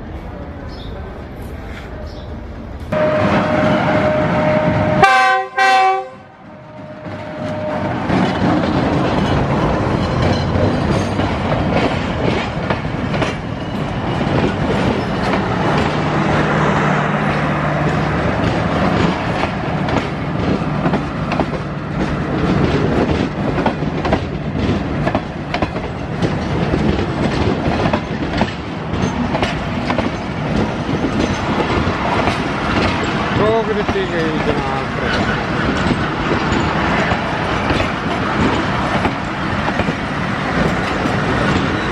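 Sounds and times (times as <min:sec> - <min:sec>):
passenger train passing: 0:00.0 - 0:41.9
wheels clicking over rail joints: 0:07.0 - 0:16.0, 0:17.2 - 0:41.9.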